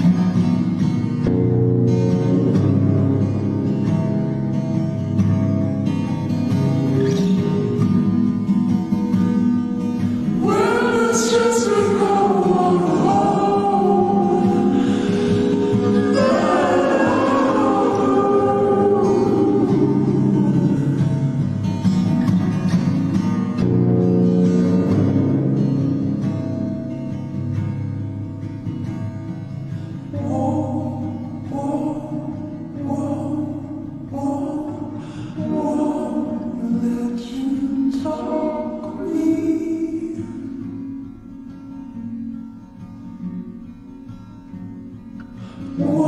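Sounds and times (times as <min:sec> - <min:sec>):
acoustic guitar song: 0:00.0 - 0:46.0.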